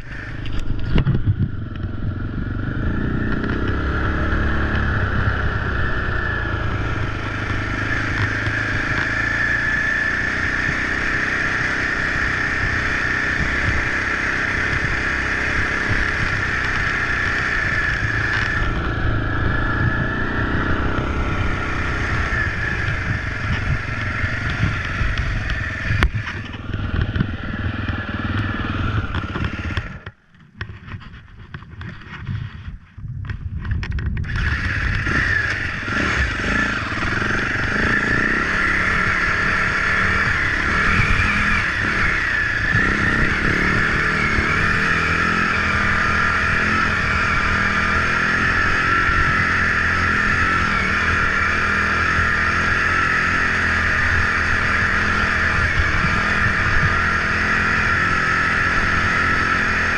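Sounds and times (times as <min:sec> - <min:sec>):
dirt bike engine revving: 0:00.0 - 0:30.2, 0:34.2 - 0:59.9.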